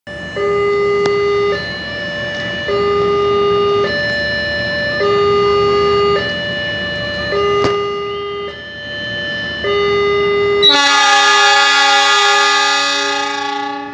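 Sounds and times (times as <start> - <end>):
level crossing two-tone alarm: 0.1 - 13.9.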